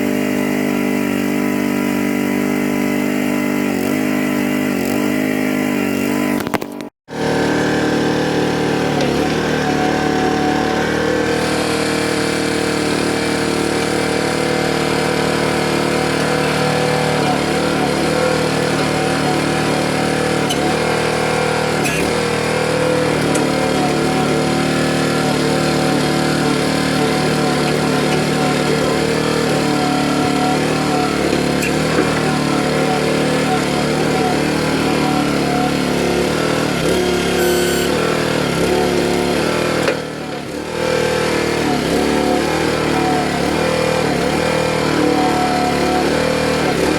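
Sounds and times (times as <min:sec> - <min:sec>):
small gas engine running: 0:00.0 - 0:46.9.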